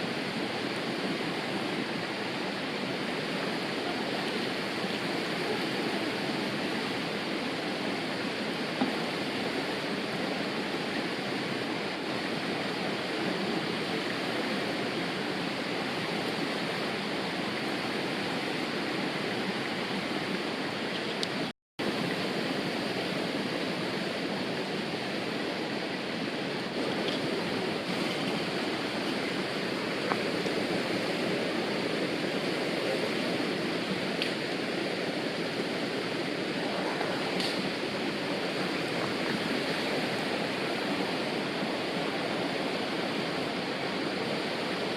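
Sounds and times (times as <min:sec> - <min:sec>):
river water rushing over rocks: 0:00.0 - 0:44.9.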